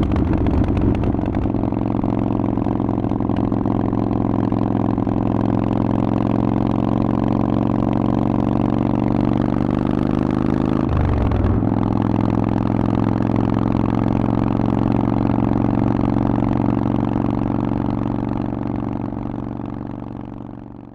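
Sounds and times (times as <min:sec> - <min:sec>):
motorcycle engine idling: 0:00.0 - 0:09.5, 0:10.8 - 0:20.9.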